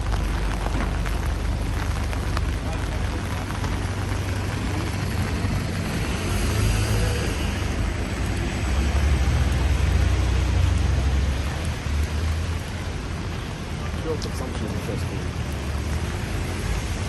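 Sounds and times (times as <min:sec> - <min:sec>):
low engine rumble: 0:00.0 - 0:17.0
tyres hissing on wet road: 0:00.0 - 0:17.0.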